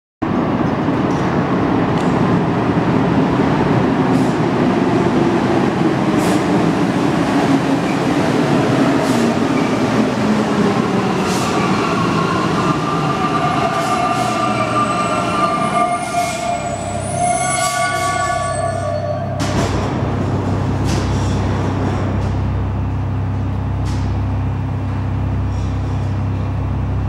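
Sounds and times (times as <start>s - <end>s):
train rumbling: 0.2s - 27.0s.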